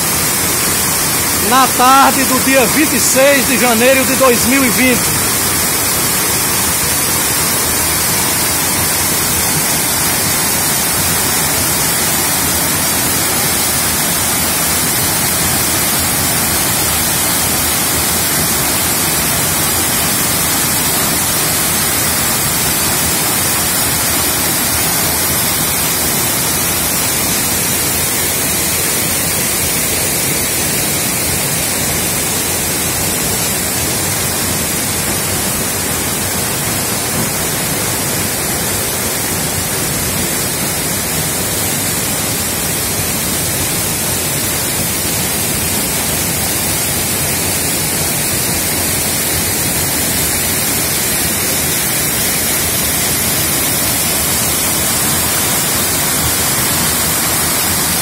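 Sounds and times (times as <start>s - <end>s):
waterfall crashing onto rocks: 0.0s - 58.0s.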